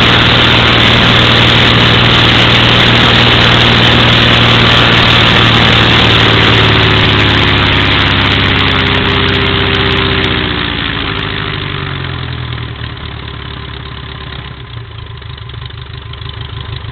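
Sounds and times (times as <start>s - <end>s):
propeller aircraft engine running: 0.0s - 16.9s.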